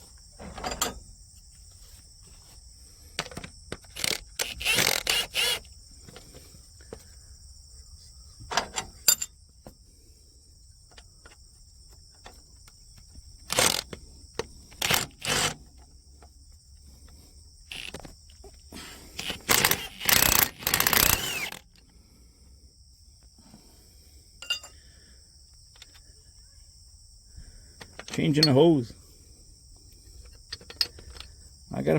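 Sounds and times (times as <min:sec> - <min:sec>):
insects droning: 0:00.0 - 0:31.9.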